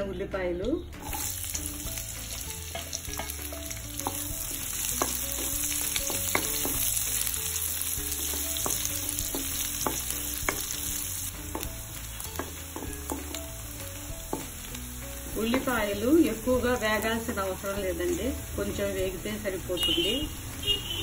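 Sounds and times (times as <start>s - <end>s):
onions sizzling in hot fat: 0.9s - 20.8s.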